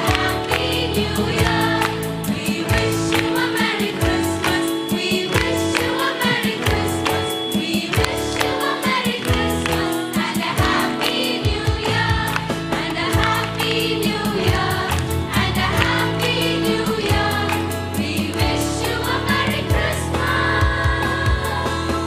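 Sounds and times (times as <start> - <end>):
drum beat: 0.0 - 18.6
choir singing: 0.0 - 22.0
keyboard and bass notes: 0.0 - 22.0.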